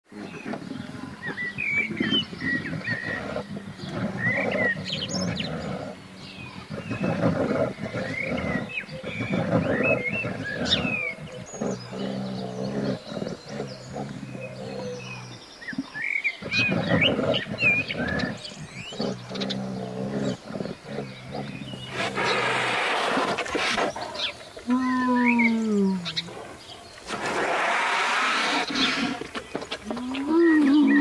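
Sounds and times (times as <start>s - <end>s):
birds chirping: 0.1s - 31.0s
deep animal growls and roars: 0.2s - 29.3s.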